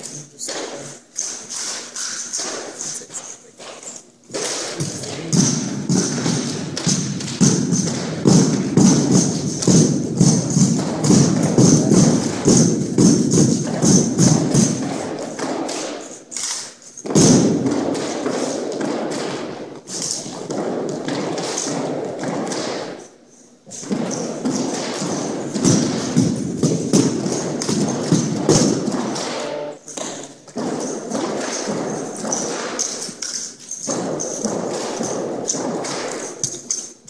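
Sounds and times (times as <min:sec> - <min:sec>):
rifles and boots thumping floor: 0:00.0 - 0:37.0
rifles slapped between hands: 0:00.5 - 0:37.0.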